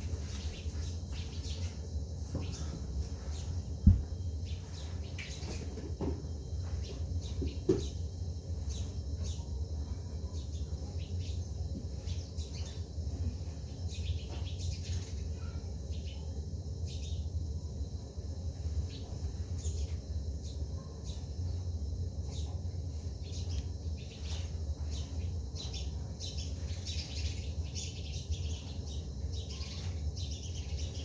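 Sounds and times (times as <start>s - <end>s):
small birds chirping: 0.0s - 31.0s
steady low hum: 0.0s - 31.0s.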